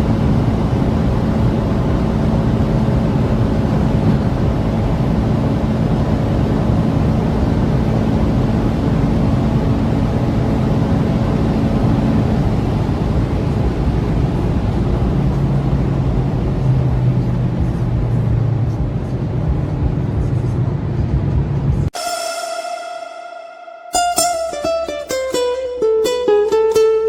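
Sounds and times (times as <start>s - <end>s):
car engine running hard: 0.0s - 21.9s
road noise: 0.0s - 22.0s.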